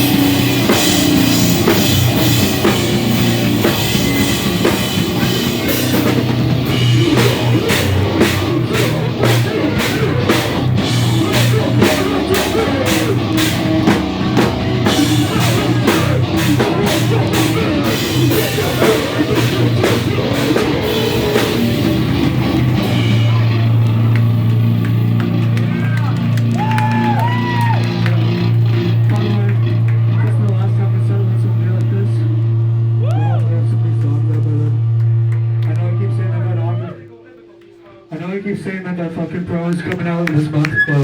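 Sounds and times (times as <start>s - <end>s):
live rock band playing: 0.0s - 33.0s
drums striking a steady beat: 0.0s - 35.6s.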